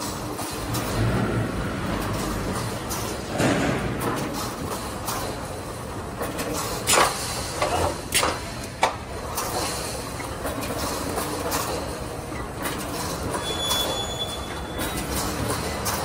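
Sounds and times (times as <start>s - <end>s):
welding machine mechanical din: 0.0s - 16.0s.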